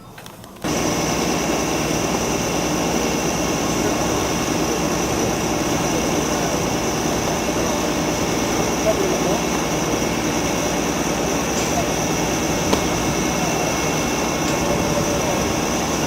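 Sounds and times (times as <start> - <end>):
faint high whine: 0.0 - 16.0
chimney fire roaring: 0.2 - 16.0.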